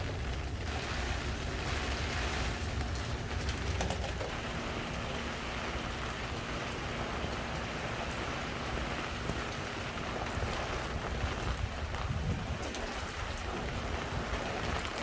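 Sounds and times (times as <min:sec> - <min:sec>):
heavy rain pouring: 0:00.0 - 0:15.0
raindrop ticks: 0:02.6 - 0:15.0.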